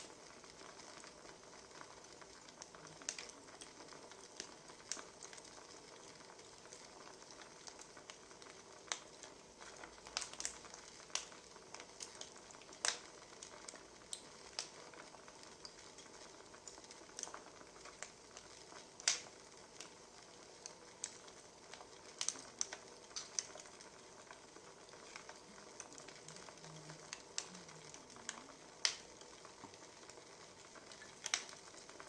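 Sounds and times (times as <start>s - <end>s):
soft fire hiss: 0.0s - 32.0s
wood fire crackling: 0.0s - 32.0s.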